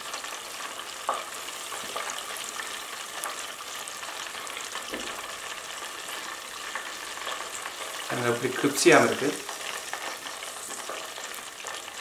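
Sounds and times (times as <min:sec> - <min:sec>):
deep-frying sizzle: 0:00.0 - 0:12.0.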